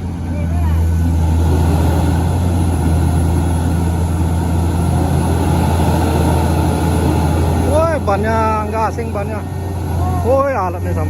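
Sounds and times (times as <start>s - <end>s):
heavy diesel engine droning: 0.0s - 11.0s.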